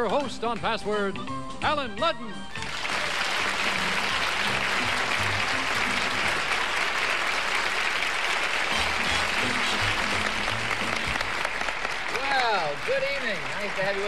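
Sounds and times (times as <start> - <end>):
audience applauding: 2.6 - 14.0.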